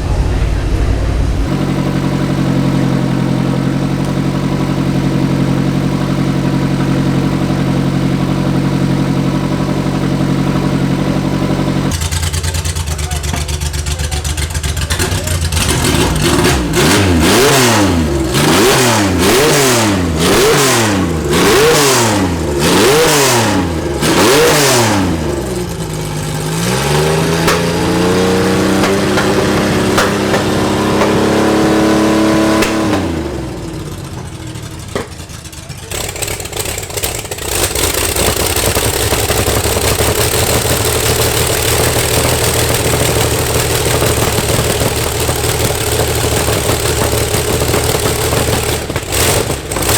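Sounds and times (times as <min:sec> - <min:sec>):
racing car engine revving: 0:00.0 - 0:13.4, 0:14.2 - 0:49.9
engine running steadily: 0:00.0 - 0:49.9.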